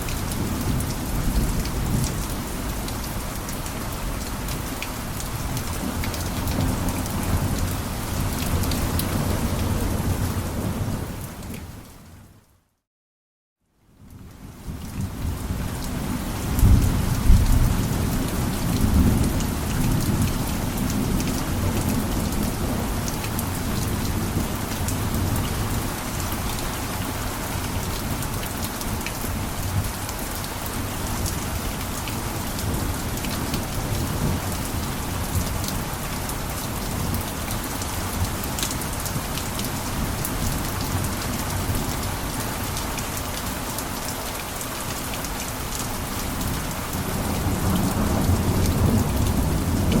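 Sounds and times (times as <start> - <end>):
heavy rain on roof: 0.0 - 12.7, 13.9 - 50.0.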